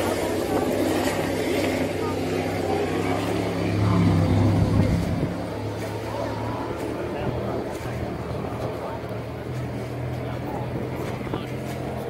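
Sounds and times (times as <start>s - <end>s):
people's voices: 0.0s - 12.0s
powerboat engines droning: 0.0s - 12.0s.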